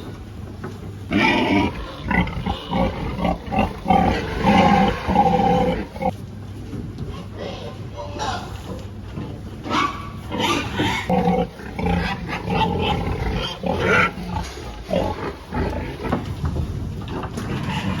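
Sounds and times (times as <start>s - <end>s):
pigs grunting and squealing: 1.1s - 6.2s, 7.1s - 16.4s, 17.1s - 18.0s.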